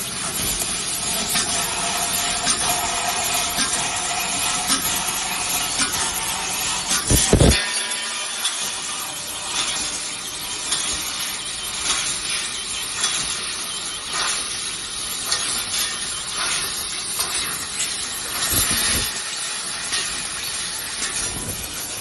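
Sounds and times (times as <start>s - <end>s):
laser cutter hiss: 0.0s - 22.0s.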